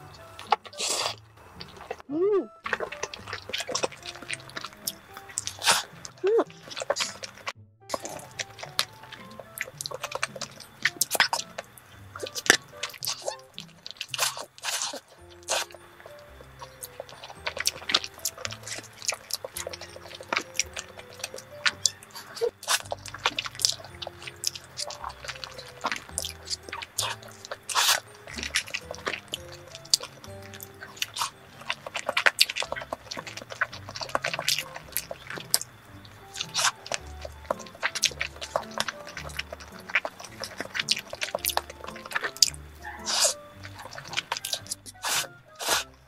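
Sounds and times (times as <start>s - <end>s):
person slurping and chewing noodles: 0.0s - 46.0s.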